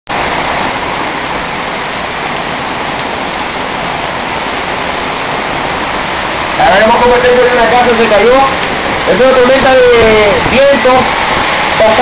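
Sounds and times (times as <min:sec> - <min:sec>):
heavy rain in windstorm: 0:00.1 - 0:12.0.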